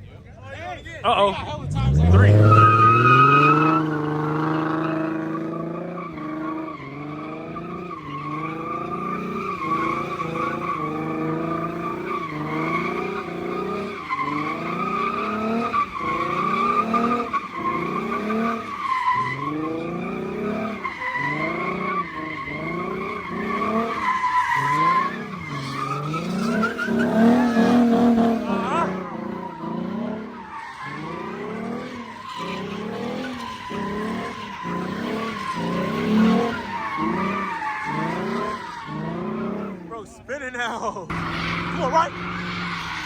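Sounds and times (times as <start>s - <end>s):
car engine revving: 0.0s - 43.0s
tyre squeal: 1.9s - 40.0s, 41.1s - 43.0s.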